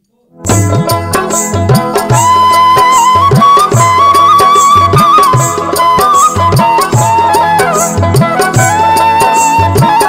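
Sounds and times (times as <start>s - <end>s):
bending folk melody line: 0.4s - 10.0s
drum with pitch-bending strokes: 0.4s - 10.0s.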